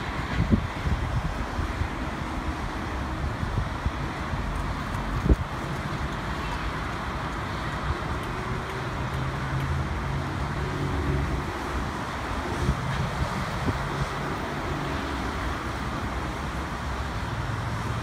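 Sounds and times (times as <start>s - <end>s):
hiss of passing cars: 0.0s - 18.0s
vehicle engine hum: 0.0s - 18.0s.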